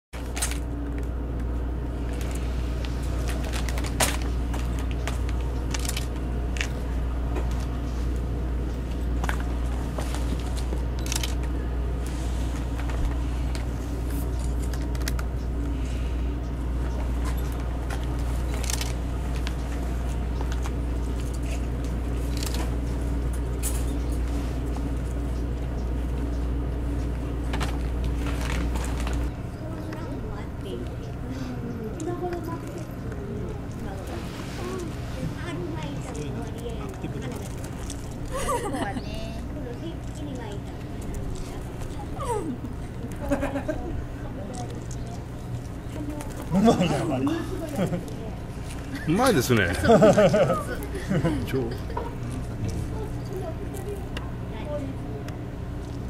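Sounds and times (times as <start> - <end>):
low motor hum: 0.2 - 56.0.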